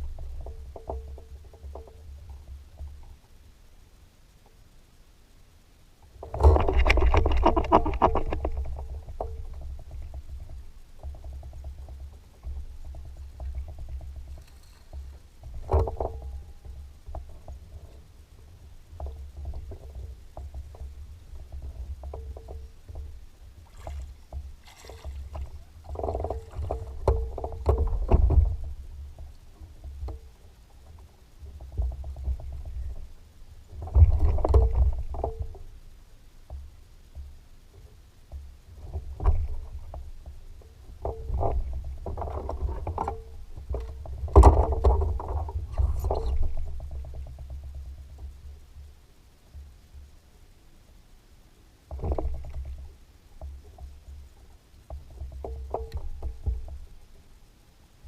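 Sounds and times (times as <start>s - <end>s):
boat engine rumble: 0.0s - 58.0s.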